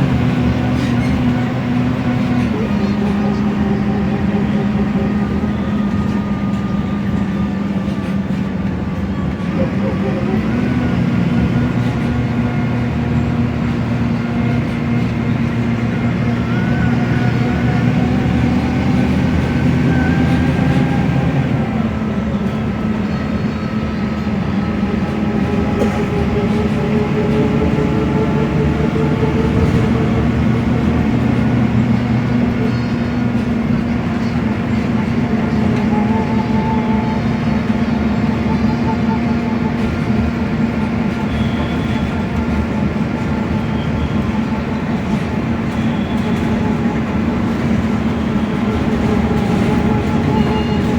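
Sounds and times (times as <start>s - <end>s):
diesel bus engine running: 0.0s - 50.9s.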